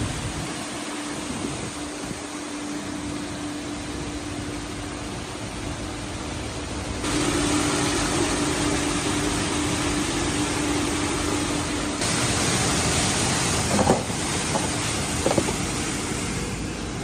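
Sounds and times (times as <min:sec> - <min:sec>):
hiss of spraying water: 0:00.0 - 0:17.0
motor hum: 0:00.0 - 0:17.0.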